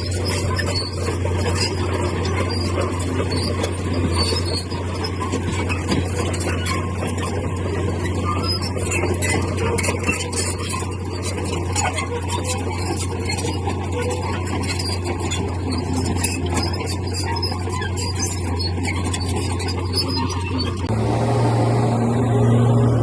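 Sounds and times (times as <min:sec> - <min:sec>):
high squeaks and clicks: 0:00.0 - 0:20.9
diesel engine humming: 0:00.0 - 0:23.0.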